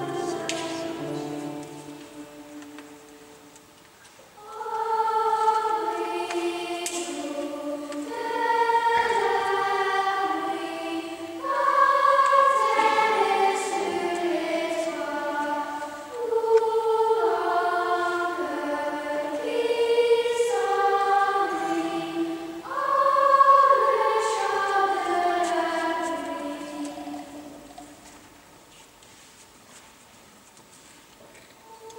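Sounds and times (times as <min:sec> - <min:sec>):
girls' choir singing: 0:00.0 - 0:03.7, 0:04.3 - 0:28.1, 0:31.6 - 0:31.9.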